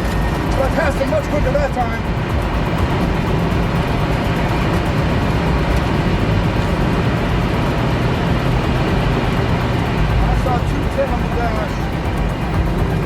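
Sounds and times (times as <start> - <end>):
wind rush: 0.0 - 13.0.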